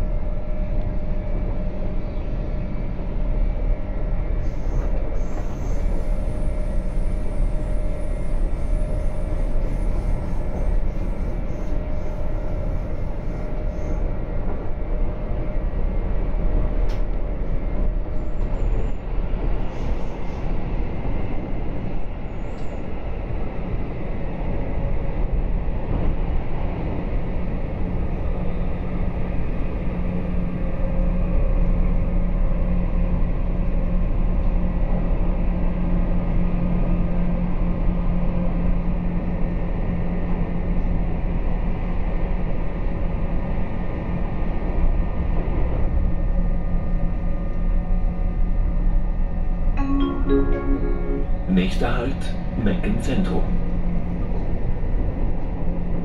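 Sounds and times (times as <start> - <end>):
train wheels rumbling on track: 0.0 - 49.8
faint train hum: 0.0 - 56.0.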